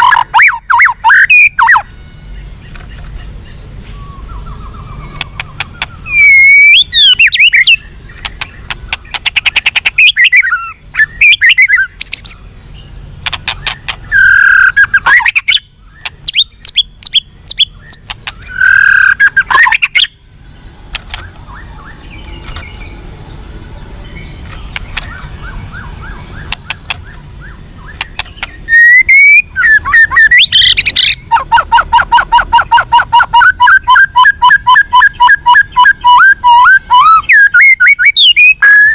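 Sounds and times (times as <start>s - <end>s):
bird singing whistled song: 0.0s - 20.2s, 24.0s - 38.9s.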